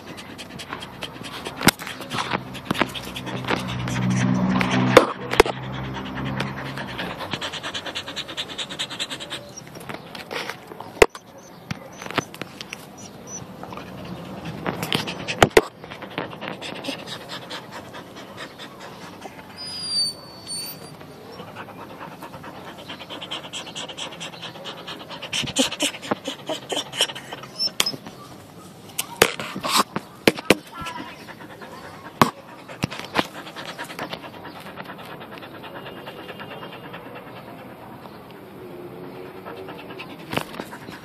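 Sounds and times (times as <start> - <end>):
dog whining: 0.0 - 10.0, 11.0 - 28.4, 30.8 - 41.0
dog panting: 0.0 - 41.0.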